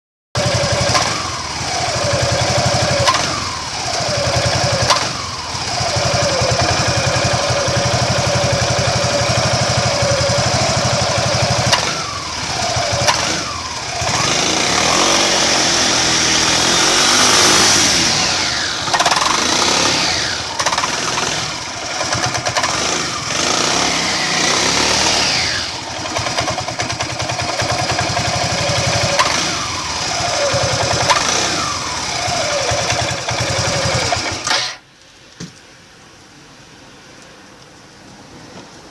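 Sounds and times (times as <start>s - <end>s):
scooter engine revving: 0.4s - 34.8s.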